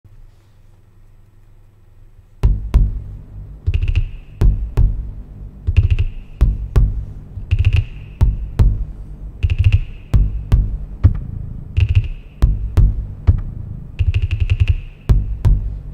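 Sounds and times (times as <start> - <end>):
techno drum machine beat: 2.4 - 15.9.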